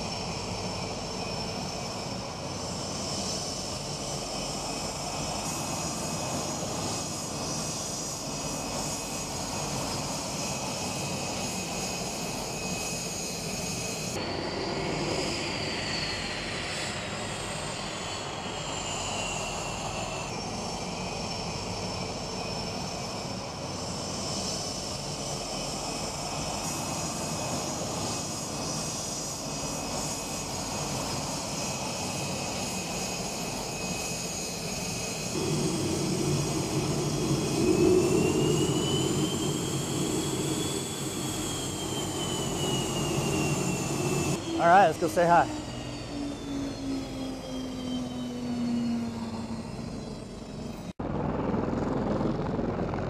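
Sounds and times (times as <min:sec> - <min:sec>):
jet engines with high whine: 0:00.0 - 0:53.0.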